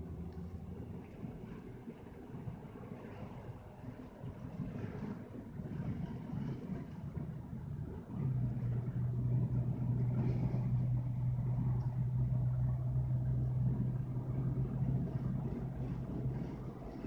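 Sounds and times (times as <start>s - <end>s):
engine humming: 0.0s - 17.0s
wind rumble on microphone: 0.0s - 17.0s.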